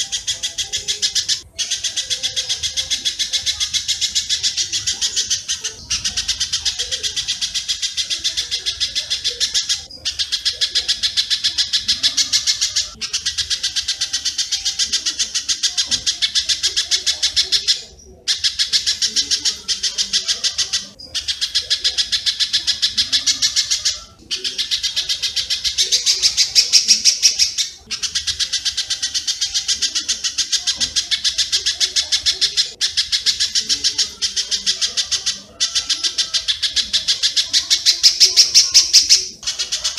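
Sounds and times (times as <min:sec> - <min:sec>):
bird chips high and rapid: 0:00.0 - 0:39.9.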